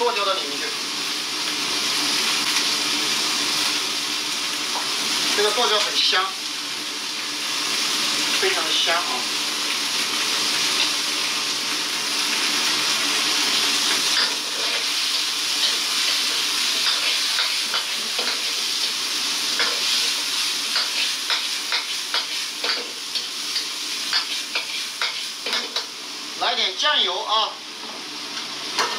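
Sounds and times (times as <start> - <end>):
meat sizzling in a wok: 0.0 - 28.9.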